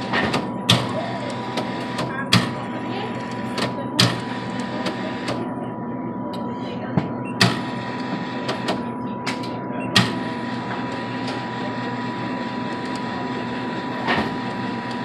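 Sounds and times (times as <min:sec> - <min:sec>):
vending machine motor whirring: 0:00.0 - 0:06.6, 0:07.3 - 0:15.0.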